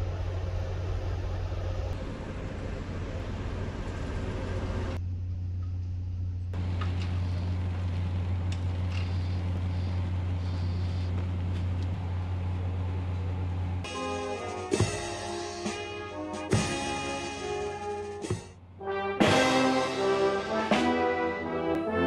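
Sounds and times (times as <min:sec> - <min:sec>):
locomotive engine humming: 0:00.0 - 0:22.0.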